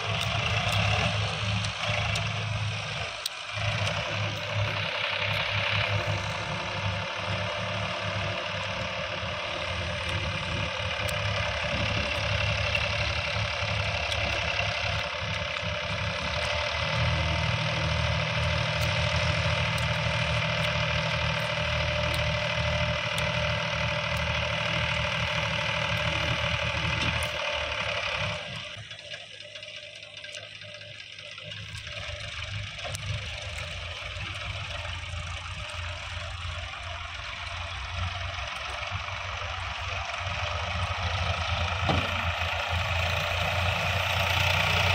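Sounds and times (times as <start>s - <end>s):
tractor diesel engine knocking: 0.0s - 44.9s.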